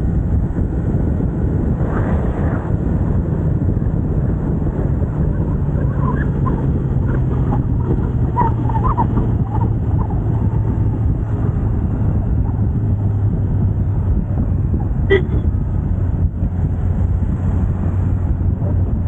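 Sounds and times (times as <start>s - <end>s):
wind rushing: 0.0s - 19.0s.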